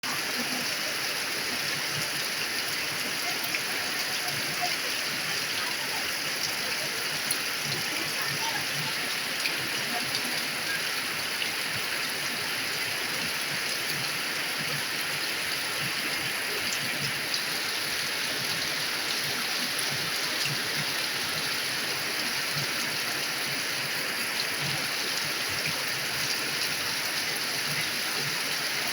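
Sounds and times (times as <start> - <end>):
rain falling on leaves: 0.1 - 28.9.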